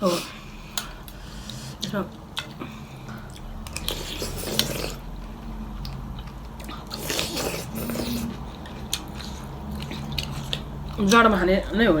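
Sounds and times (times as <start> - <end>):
person chewing noodle soup: 0.0 - 11.3.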